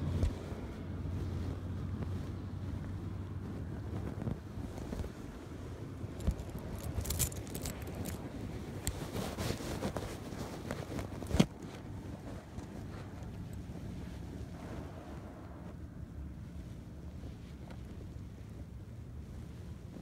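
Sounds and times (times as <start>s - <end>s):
low wind rumble: 0.0s - 20.0s
muffled handling noise: 0.0s - 20.0s.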